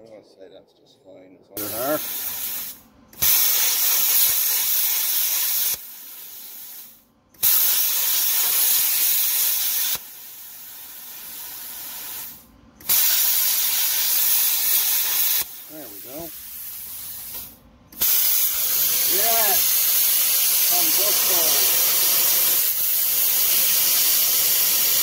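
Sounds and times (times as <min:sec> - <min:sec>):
plasma cutter hissing: 0:01.6 - 0:25.0.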